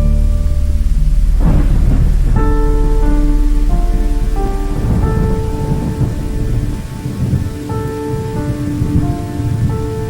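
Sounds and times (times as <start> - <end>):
heavy rain: 0.0 - 10.0
soft music of sustained notes: 0.0 - 10.0
rumbling thunder: 0.2 - 10.0.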